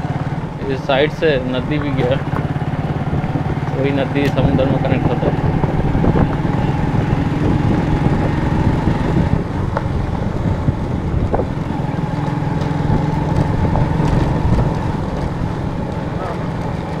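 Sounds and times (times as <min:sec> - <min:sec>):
motorcycle engine running: 0:00.0 - 0:17.0
wind on the microphone: 0:01.7 - 0:16.7.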